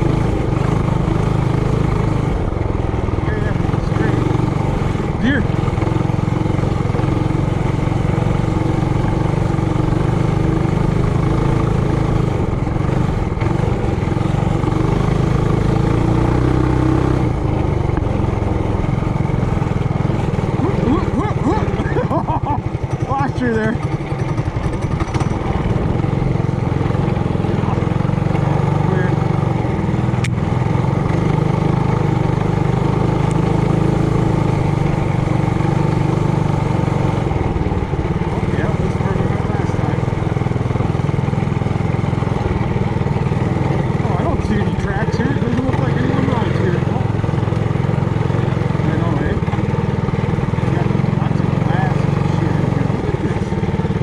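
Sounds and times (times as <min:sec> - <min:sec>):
small motorbike engine running: 0:00.0 - 0:54.0.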